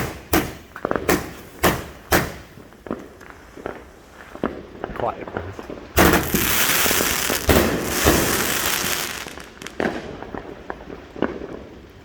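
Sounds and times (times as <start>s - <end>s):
fireworks bangs: 0.0s - 11.9s
fireworks crackling hiss: 0.0s - 12.0s.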